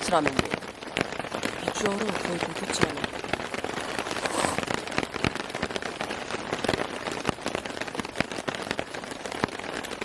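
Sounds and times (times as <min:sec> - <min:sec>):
rain falling: 0:00.0 - 0:10.0
raindrops ticking: 0:00.0 - 0:10.0.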